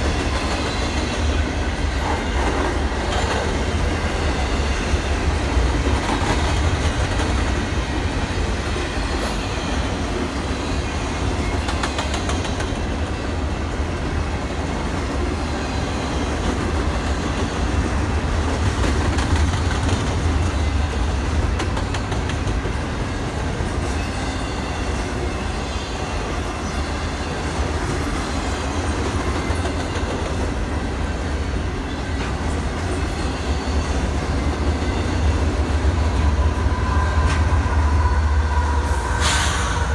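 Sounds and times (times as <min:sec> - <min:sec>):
train rumbling along tracks: 0:00.0 - 0:39.9.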